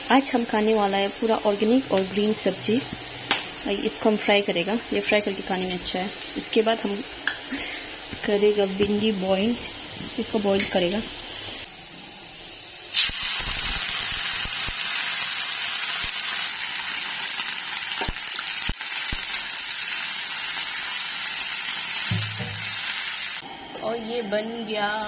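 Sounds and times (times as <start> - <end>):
greens sizzling in a wok: 0.0 - 23.5.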